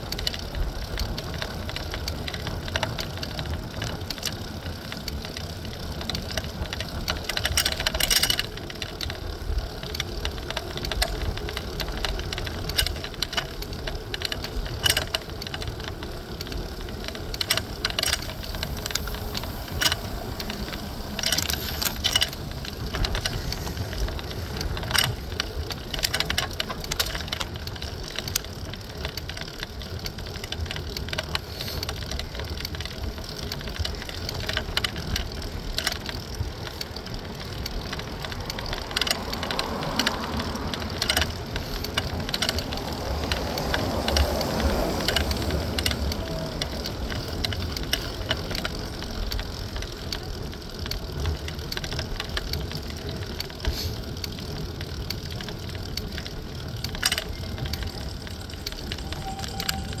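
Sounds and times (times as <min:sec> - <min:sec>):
bike rattling and clicking: 0:00.0 - 1:00.0
road and wind rumble: 0:00.0 - 1:00.0.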